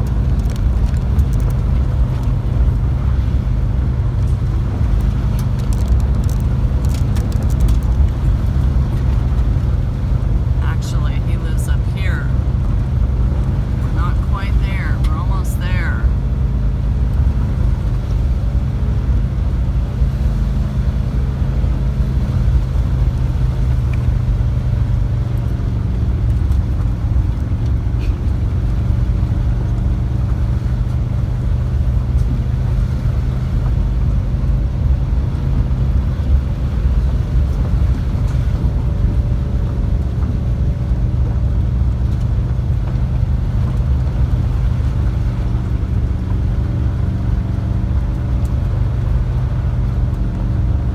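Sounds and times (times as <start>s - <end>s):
bus engine droning: 0.0s - 50.9s
road noise: 0.0s - 50.9s.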